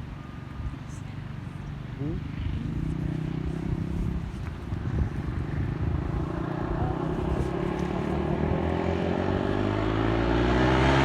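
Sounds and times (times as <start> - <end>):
atv engine revving: 1.9 - 11.0.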